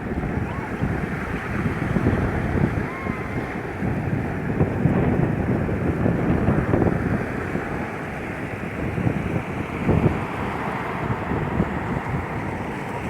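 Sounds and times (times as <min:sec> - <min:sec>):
sea waves washing onto shore: 0:00.0 - 0:13.0
wind buffeting microphone: 0:00.0 - 0:13.0.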